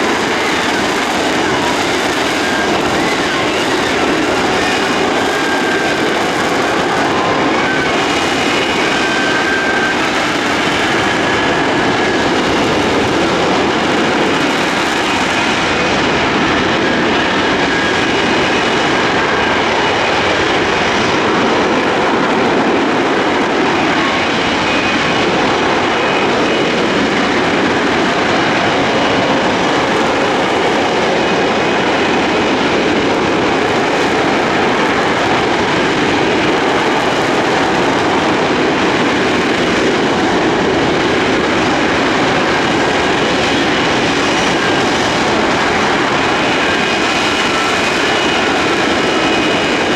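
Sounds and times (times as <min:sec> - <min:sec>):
high whine: 0:00.0 - 0:49.9
jet engine roaring: 0:00.0 - 0:49.9.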